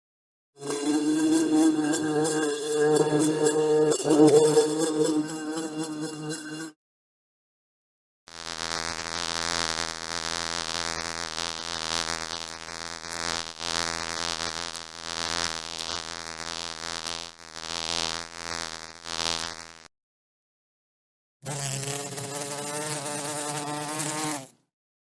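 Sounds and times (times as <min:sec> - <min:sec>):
bee buzzing: 0:00.6 - 0:06.8, 0:08.3 - 0:19.9, 0:21.4 - 0:24.6.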